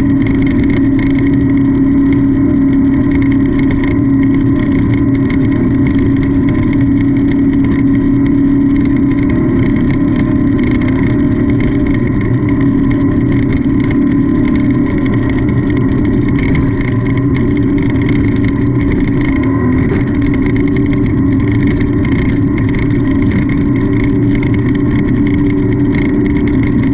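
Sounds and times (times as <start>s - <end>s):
race car engine running hard: 0.0s - 26.9s.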